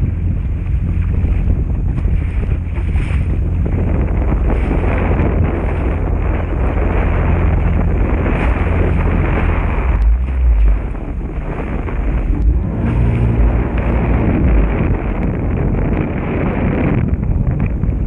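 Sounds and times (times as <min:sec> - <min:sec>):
hull splashing through water: 0:00.0 - 0:17.9
watercraft engine hum: 0:00.0 - 0:18.0
wind noise on microphone: 0:00.0 - 0:18.0.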